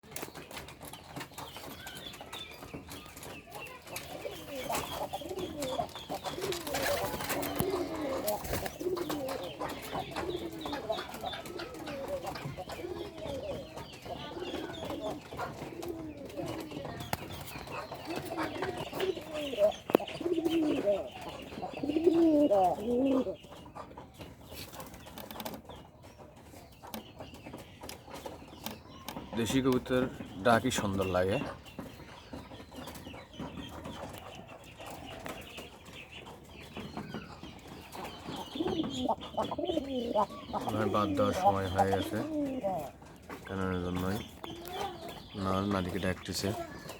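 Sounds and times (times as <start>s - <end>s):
pigeons cooing: 0.1s - 46.9s.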